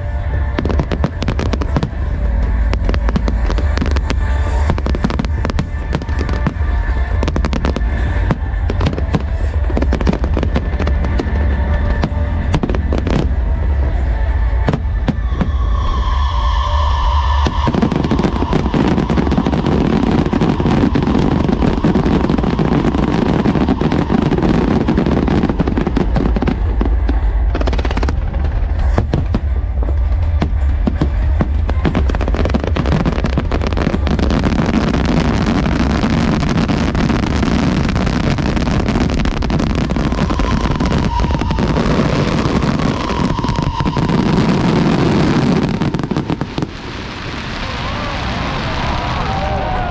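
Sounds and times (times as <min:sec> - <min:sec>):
fireworks crackling bursts: 0:00.0 - 0:49.9
fireworks whistling: 0:00.0 - 0:49.9.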